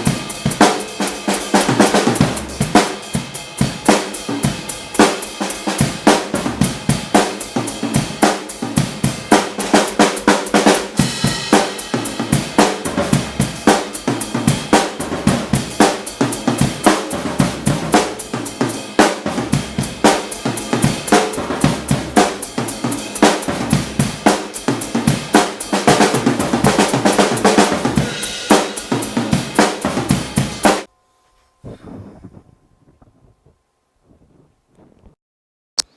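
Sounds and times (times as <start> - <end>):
drum kit groove: 0.0 - 30.9.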